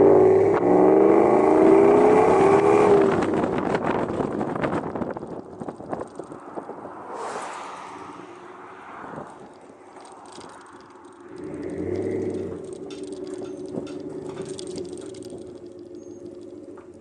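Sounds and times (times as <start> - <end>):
truck exhaust revving and humming: 0.0 - 17.0.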